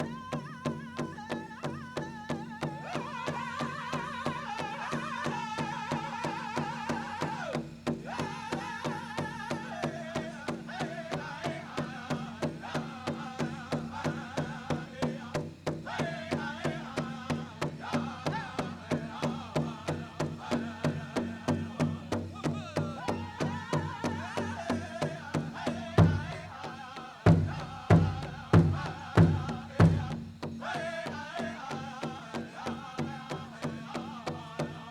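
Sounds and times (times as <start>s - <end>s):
big drum beat: 0.0s - 34.9s
drum group singing high voices: 0.0s - 34.9s.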